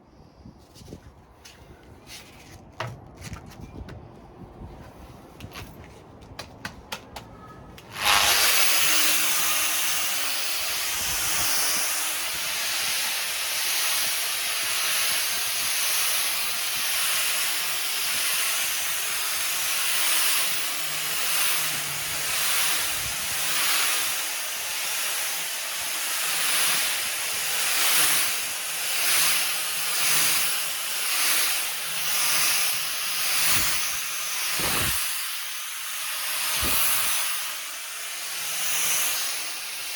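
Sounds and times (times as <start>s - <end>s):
orbital sander on wood: 7.8s - 39.9s.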